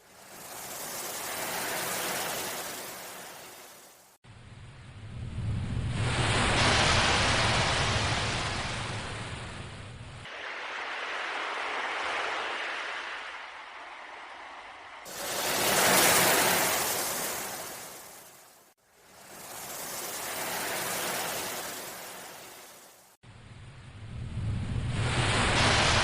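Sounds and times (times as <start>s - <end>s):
ocean waves washing: 0.0s - 4.2s, 5.5s - 23.2s.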